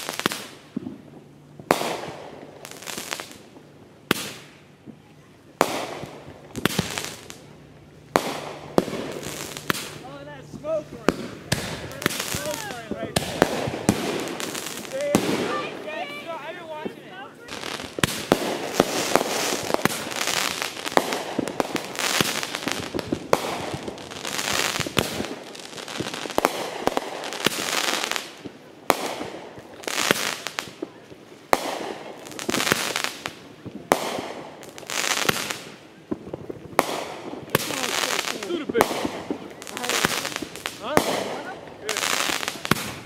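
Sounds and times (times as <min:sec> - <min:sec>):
firework crackling: 0:00.0 - 0:43.0
firework shells bursting: 0:05.6 - 0:43.0.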